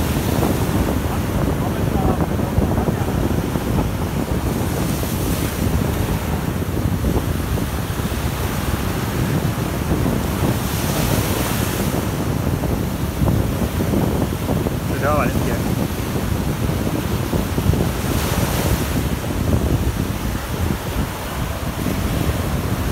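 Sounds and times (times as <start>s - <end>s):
sea waves breaking: 0.0s - 22.9s
wind buffeting microphone: 0.0s - 22.9s.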